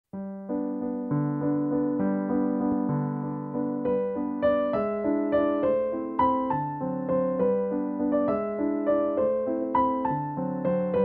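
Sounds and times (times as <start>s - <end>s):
piano playing even notes: 0.1s - 11.0s.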